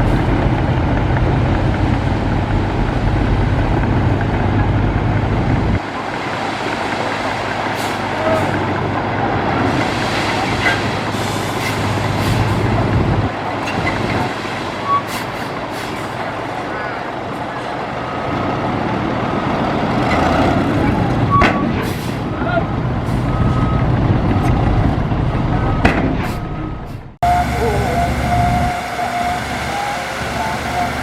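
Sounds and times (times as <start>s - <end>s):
diesel machinery engine rumble: 0.0s - 31.0s.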